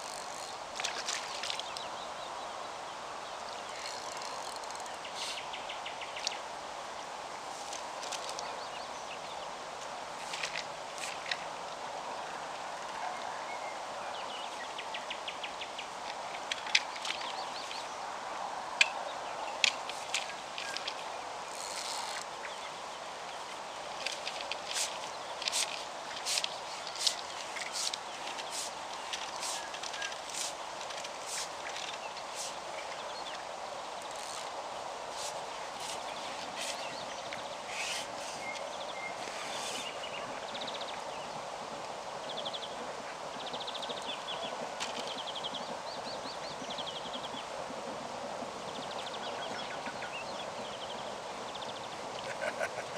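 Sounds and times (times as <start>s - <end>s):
songbirds singing: 0.0s - 52.9s
steady background hiss: 0.0s - 52.9s.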